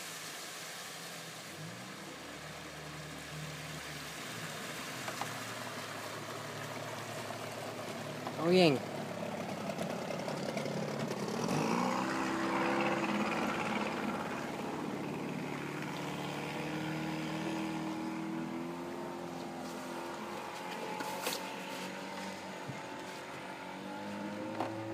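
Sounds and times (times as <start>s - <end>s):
outboard motor running: 1.7s - 24.9s.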